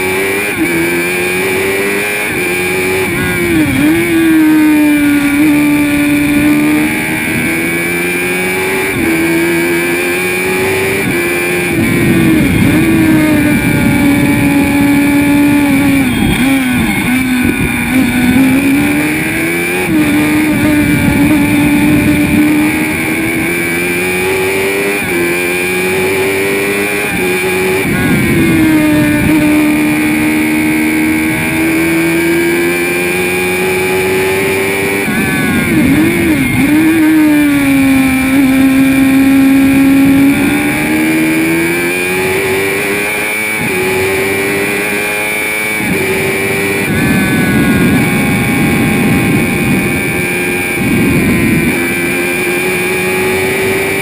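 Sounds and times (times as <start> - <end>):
racing car engine at high revs: 0.0 - 54.0.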